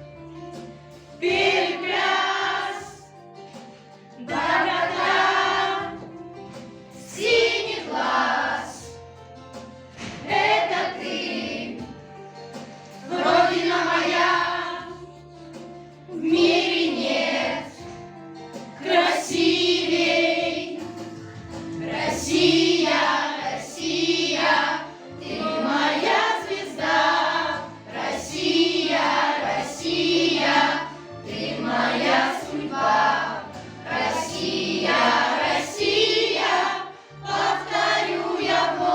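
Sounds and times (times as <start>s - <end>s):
instrumental accompaniment: 0.0s - 38.9s
children's choir singing: 1.2s - 3.2s, 4.1s - 6.2s, 6.9s - 9.0s, 10.2s - 12.0s, 13.0s - 15.1s, 16.1s - 18.0s, 18.6s - 38.9s.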